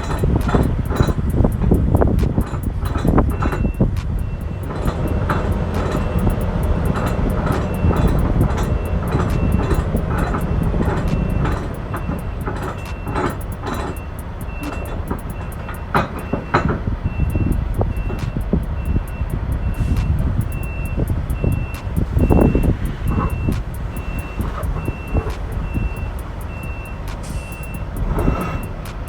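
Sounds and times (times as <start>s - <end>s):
heavy vehicle engine rumble: 0.0s - 29.0s
metal clanks and knocks: 0.0s - 29.0s
reversing alarm beeping: 0.0s - 29.0s.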